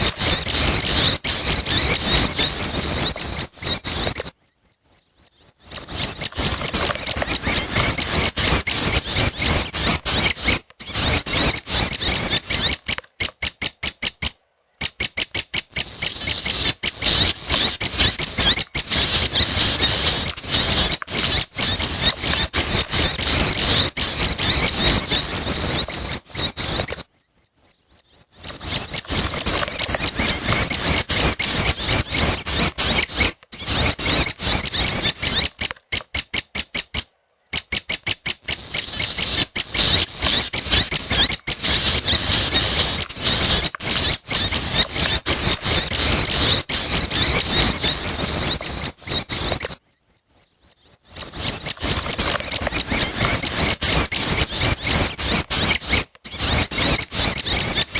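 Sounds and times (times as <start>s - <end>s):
chicks begging calls: 0.0s - 4.3s, 5.2s - 27.1s, 28.0s - 49.8s, 50.6s - 57.9s.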